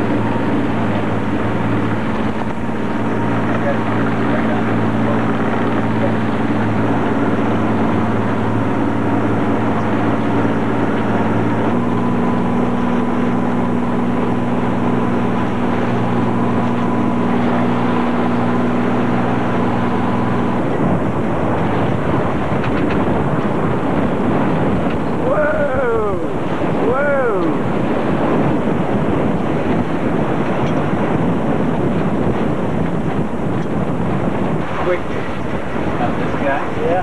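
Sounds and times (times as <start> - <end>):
boat engine droning: 0.0 - 37.0
water noise: 0.0 - 37.0
wind on microphone: 0.0 - 37.0.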